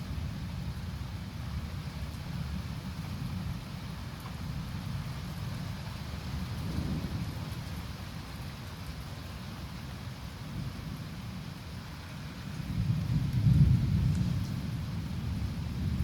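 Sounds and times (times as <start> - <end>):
rain falling: 0.0 - 16.0
thunder rumble: 0.0 - 16.0.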